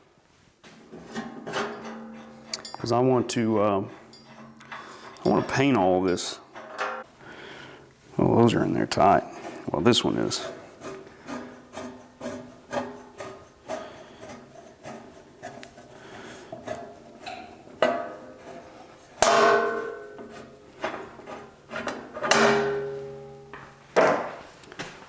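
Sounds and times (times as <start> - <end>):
metal hand tools clanking: 1.0 - 7.1, 8.9 - 24.3.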